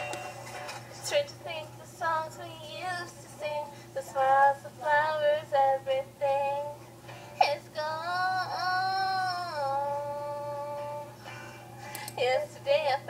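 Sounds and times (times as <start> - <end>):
steady low hum: 0.0 - 13.0
girl singing through speakers: 1.0 - 6.8, 7.4 - 13.0.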